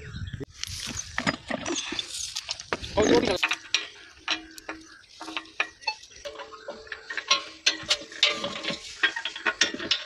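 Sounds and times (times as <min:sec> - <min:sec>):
metal pipe fittings clicking: 0:01.2 - 0:10.0.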